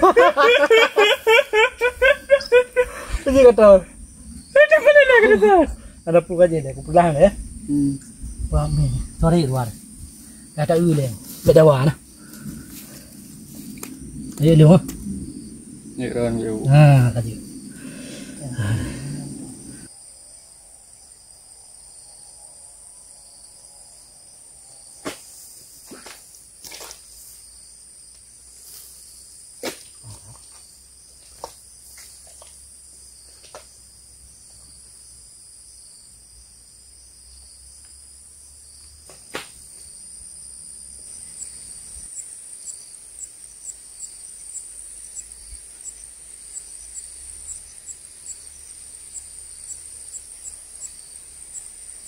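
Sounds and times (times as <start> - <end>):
high-pitched insect chorus: 0.0 - 52.0
insect pulsing chirp: 0.0 - 52.0.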